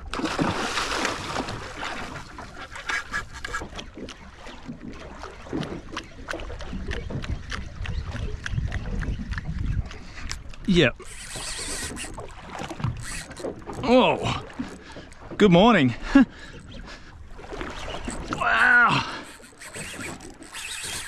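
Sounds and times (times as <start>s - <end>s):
water slapping against hull: 0.0s - 21.0s.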